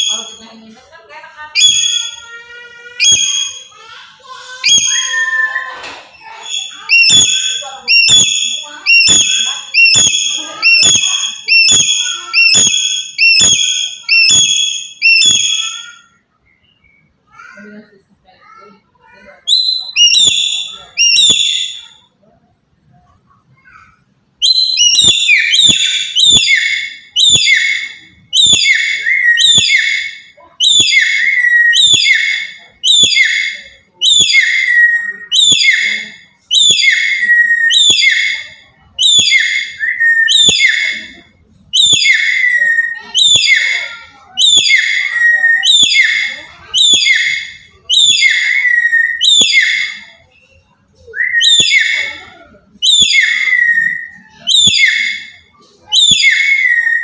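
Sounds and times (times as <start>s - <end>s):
parrot shrill calls: 0.0s - 0.6s, 1.4s - 16.2s, 19.0s - 22.1s, 23.6s - 50.3s, 51.0s - 57.0s.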